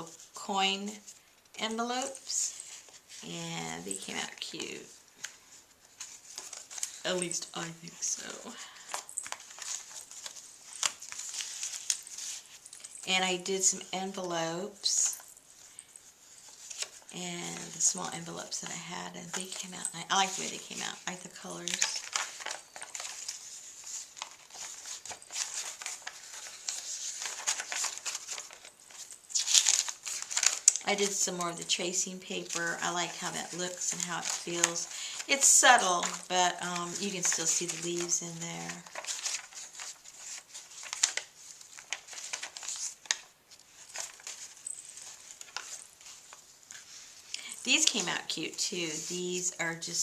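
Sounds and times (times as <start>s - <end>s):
paper pages rustling: 1.9s - 13.1s, 15.0s - 50.0s.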